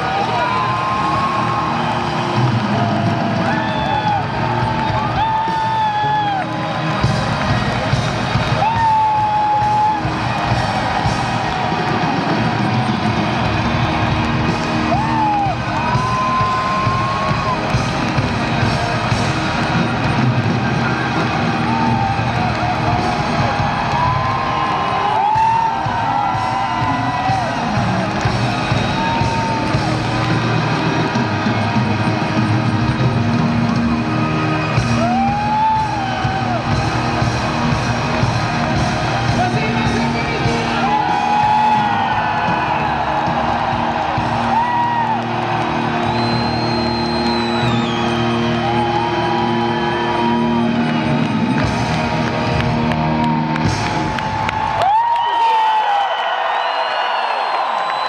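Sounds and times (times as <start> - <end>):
rock band with orchestra: 0.0 - 54.8
crowd yelling: 0.0 - 58.0.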